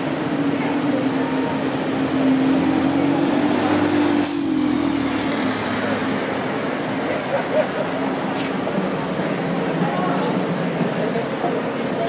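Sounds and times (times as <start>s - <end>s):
heavy vehicle engine hum: 0.0s - 12.0s.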